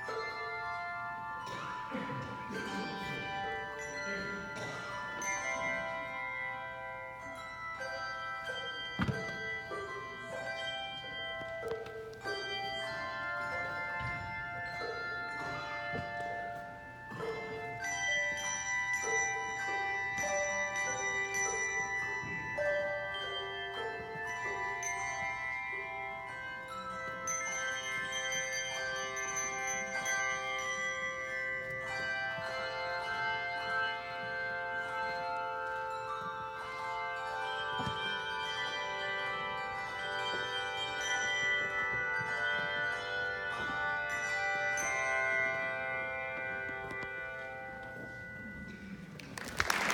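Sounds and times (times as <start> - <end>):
handbell choir playing: 0.0 - 49.9.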